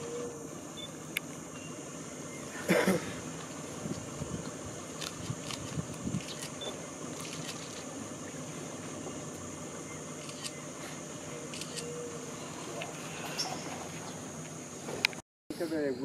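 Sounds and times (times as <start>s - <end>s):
low motor hum: 0.0s - 15.2s
high insect drone: 0.0s - 16.0s.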